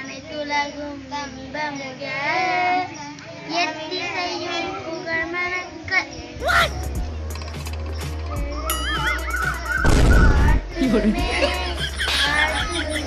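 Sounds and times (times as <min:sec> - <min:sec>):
children singing together: 0:00.0 - 0:07.1, 0:08.3 - 0:13.0.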